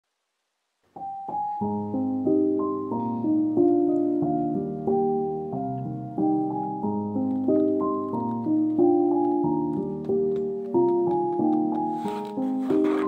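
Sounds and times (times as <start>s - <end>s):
piano music: 1.0s - 13.0s.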